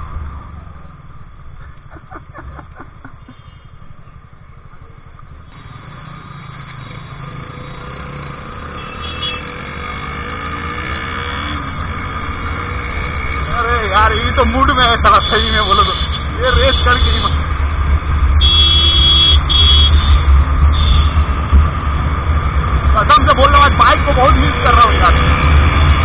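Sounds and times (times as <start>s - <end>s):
motorcycle and scooter engines: 0.0s - 26.0s.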